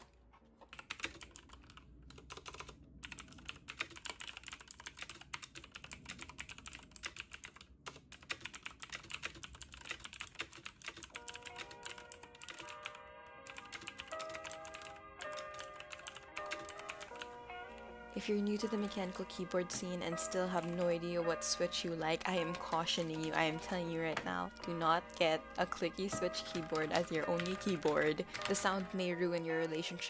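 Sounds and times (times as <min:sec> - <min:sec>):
fast typing on clicky keyboard: 0:00.0 - 0:17.3, 0:18.4 - 0:30.0.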